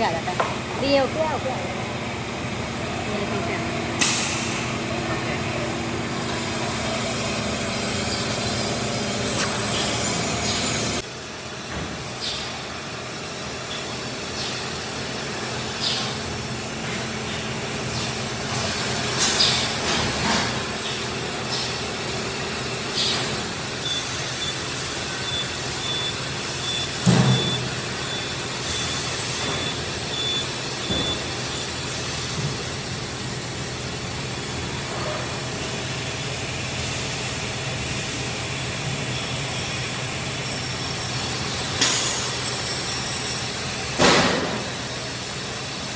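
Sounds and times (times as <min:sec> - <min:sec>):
factory machinery running: 0:00.0 - 0:45.9.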